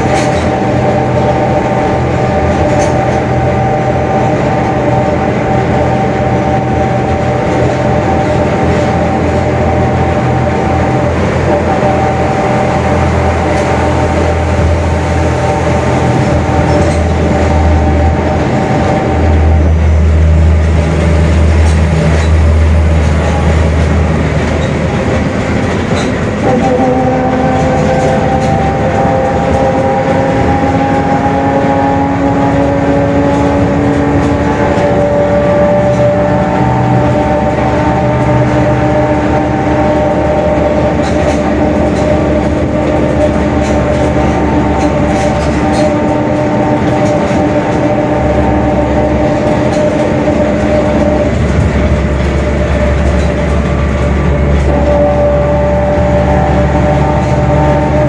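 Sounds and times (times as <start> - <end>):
bus diesel engine running: 0.0 - 58.0
whining drone from differential: 0.0 - 58.0.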